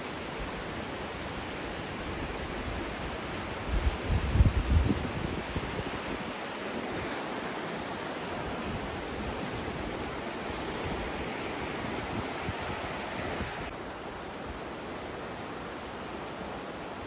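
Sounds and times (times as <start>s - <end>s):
rushing floodwater: 0.0s - 17.0s.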